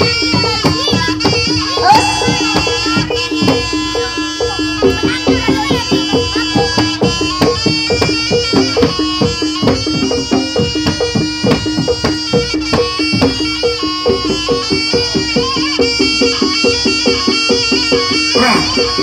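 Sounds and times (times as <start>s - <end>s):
fast drum beat: 0.0s - 19.0s.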